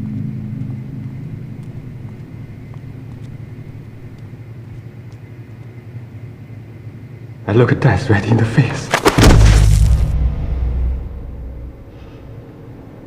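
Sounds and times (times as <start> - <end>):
low steady rumble: 0.0 - 7.5, 9.2 - 13.0.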